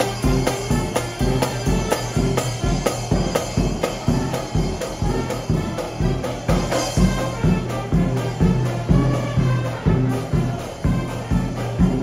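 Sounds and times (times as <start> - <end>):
marching band playing: 0.0 - 12.0
snare and bass drums: 0.0 - 12.0.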